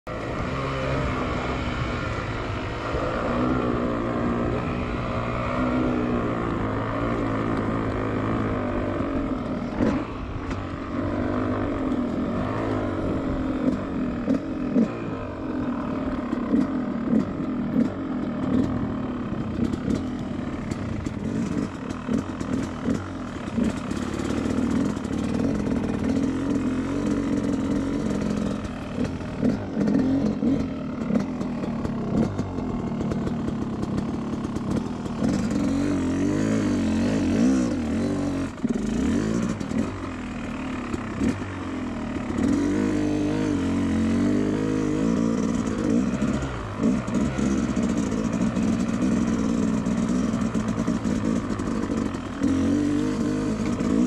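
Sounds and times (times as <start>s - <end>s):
dirt bike engine revving: 0.1s - 54.0s
bike rattling over rough ground: 1.3s - 54.0s.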